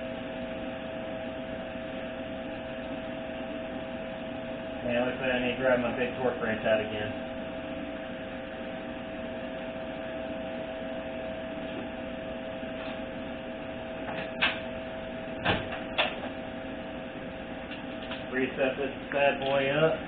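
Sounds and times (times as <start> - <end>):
steady two-tone hum: 0.0 - 20.0.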